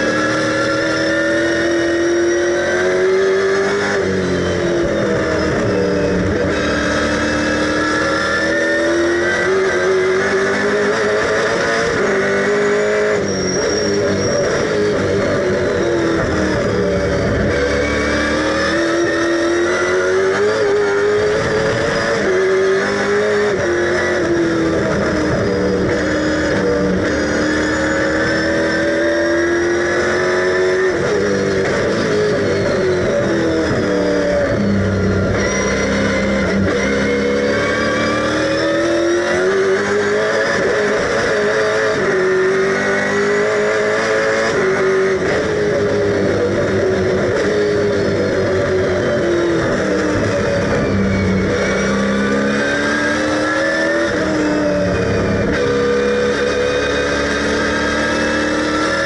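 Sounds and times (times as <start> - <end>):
race car engine from inside cabin: 0.0 - 59.0.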